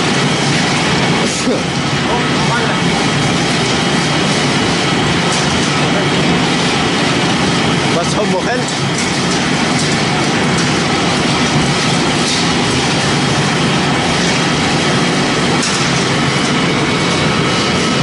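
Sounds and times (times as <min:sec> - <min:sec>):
loud machine noise: 0:00.0 - 0:18.0.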